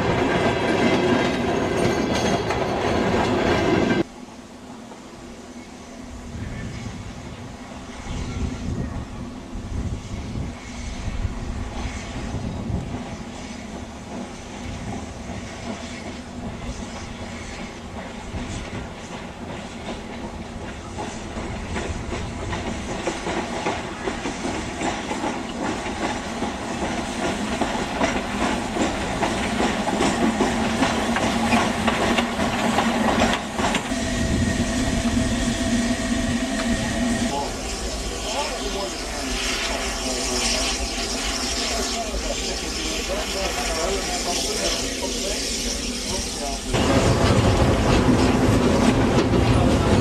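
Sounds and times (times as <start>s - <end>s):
train wheel clatter: 0.0s - 4.1s, 11.7s - 37.5s, 38.3s - 50.0s
steam hiss: 4.1s - 50.0s
steam locomotive exhaust beats: 6.4s - 50.0s.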